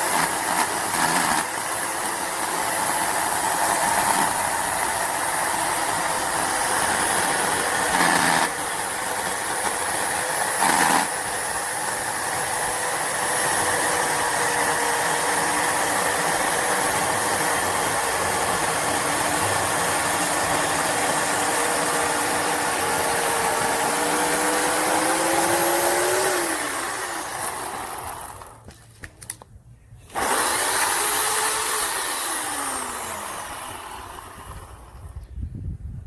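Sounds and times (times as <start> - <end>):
electric chainsaw running: 0.0 - 28.8, 30.1 - 35.2.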